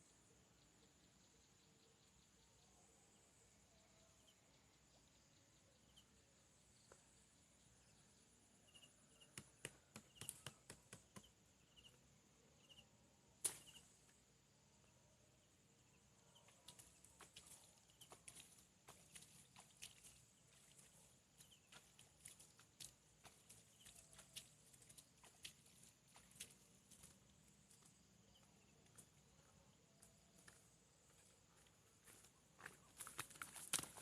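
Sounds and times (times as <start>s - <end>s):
insect chirps: 0.0s - 34.0s
insects droning: 0.0s - 34.0s.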